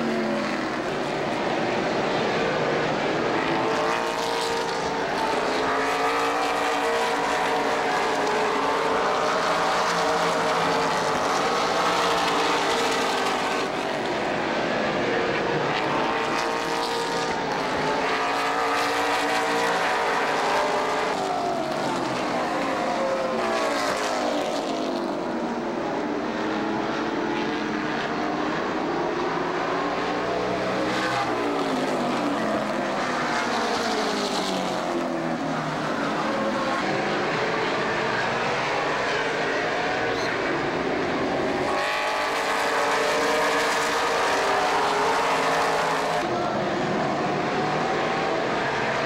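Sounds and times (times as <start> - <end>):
race car engines running hard: 0.0 - 49.0.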